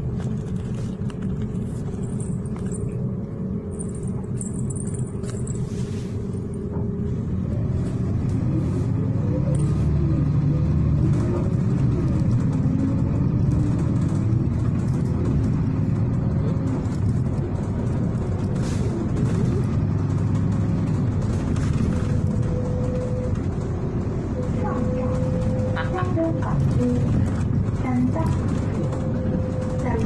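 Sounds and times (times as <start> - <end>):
bus engine rumble: 0.0 - 30.0
road noise: 0.0 - 30.0.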